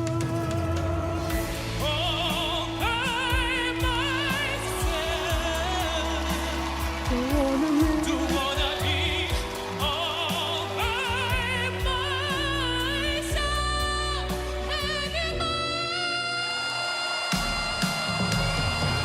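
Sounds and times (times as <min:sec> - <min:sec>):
backing music: 0:00.0 - 0:19.0
person singing with vibrato: 0:00.0 - 0:19.0.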